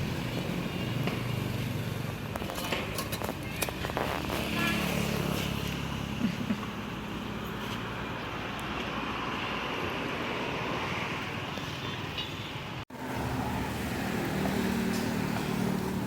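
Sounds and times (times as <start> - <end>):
passing cars and motorbikes: 0.0 - 16.0.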